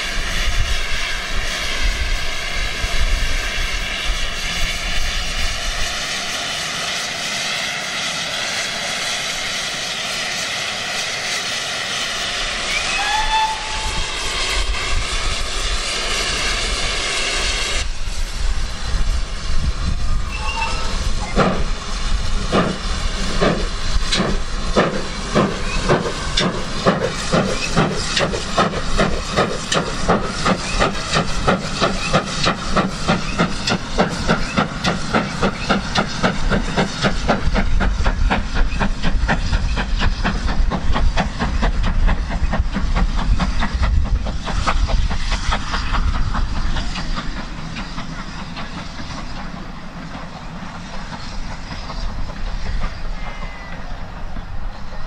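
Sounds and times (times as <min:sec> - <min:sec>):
steam engine chuffing: 0:00.0 - 0:55.0.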